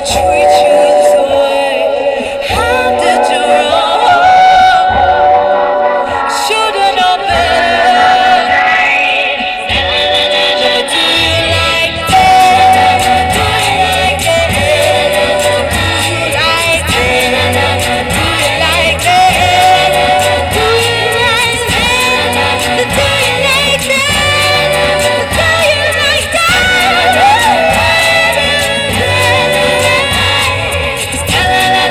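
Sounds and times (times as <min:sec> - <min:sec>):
instrumental accompaniment with bass: 0:00.0 - 0:31.9
person singing: 0:00.0 - 0:31.9.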